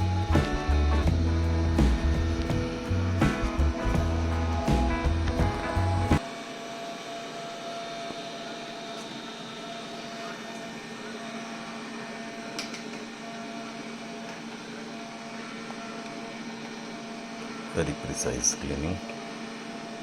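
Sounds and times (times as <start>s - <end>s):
robot vacuum motor hum: 0.0s - 20.0s.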